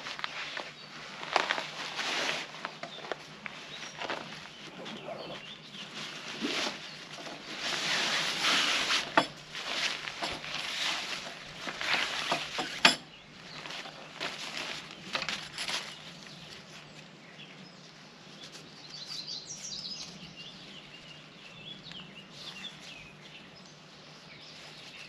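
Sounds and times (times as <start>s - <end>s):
rustling handling noise: 0.0s - 25.0s.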